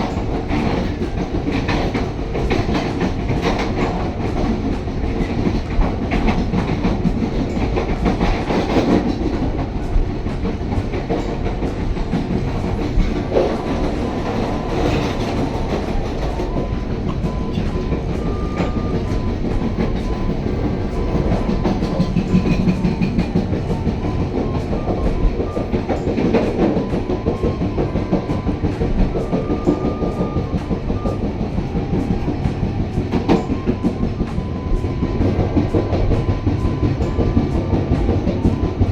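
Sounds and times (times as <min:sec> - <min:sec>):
train rumbling along track: 0:00.0 - 0:38.9
wheels clicking over rails: 0:00.0 - 0:38.9.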